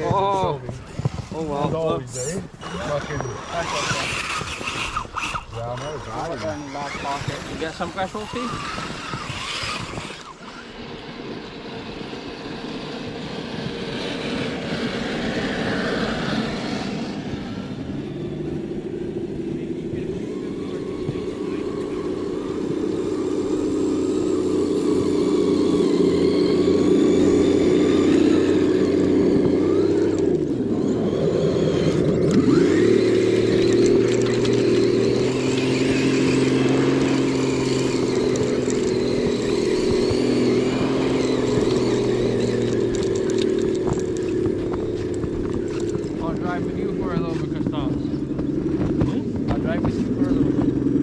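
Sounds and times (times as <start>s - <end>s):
electric motor and gears whining: 0.0s - 51.0s.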